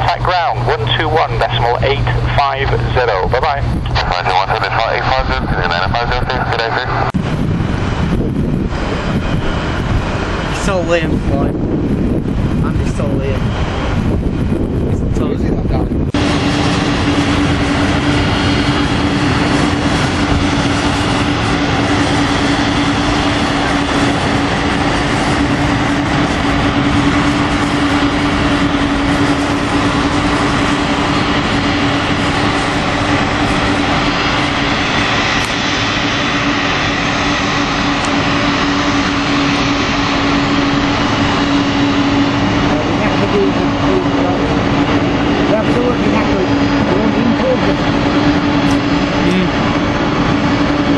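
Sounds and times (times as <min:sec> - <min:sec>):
jet engines running: 0:00.0 - 0:50.9.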